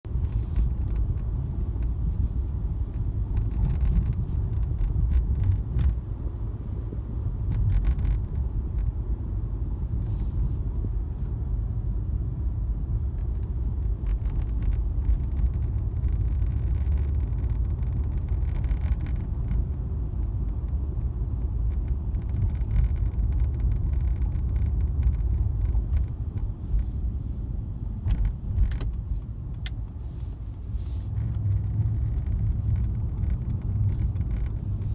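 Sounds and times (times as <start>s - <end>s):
road and engine rumble: 0.0s - 34.9s.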